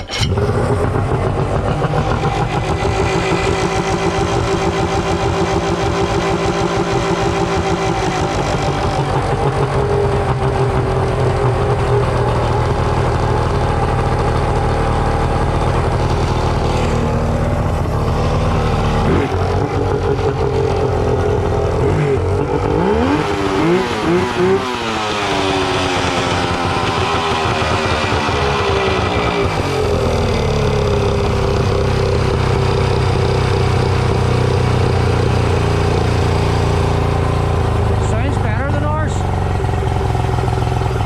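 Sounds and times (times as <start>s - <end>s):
outboard engine running: 0.0s - 41.0s.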